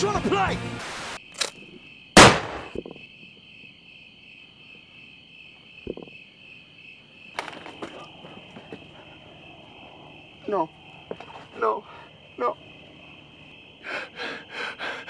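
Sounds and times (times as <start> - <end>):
crickets chirping: 1.1 - 15.0.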